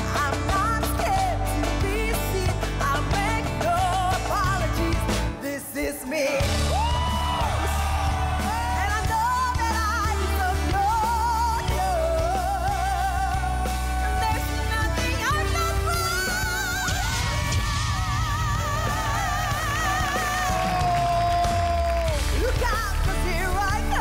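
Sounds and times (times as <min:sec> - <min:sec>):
live band playing: 0:00.0 - 0:24.0
woman singing a pop ballad: 0:00.0 - 0:24.0.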